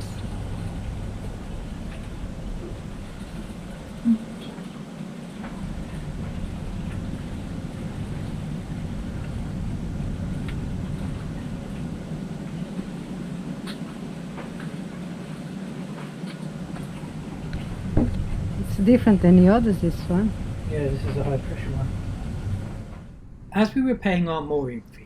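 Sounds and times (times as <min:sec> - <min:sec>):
low rumble: 0:00.0 - 0:15.3, 0:16.5 - 0:25.0.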